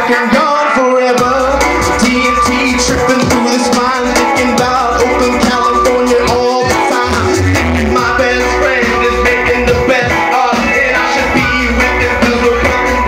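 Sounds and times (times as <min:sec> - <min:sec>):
live reggae band playing: 0:00.0 - 0:13.0
person singing: 0:00.0 - 0:13.0.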